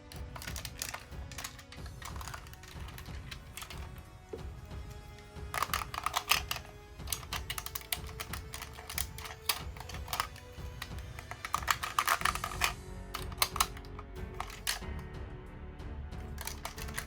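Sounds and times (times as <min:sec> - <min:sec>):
plastic toy parts clicking: 0:00.0 - 0:04.4, 0:05.1 - 0:15.0, 0:16.4 - 0:17.0
background music: 0:00.0 - 0:17.0.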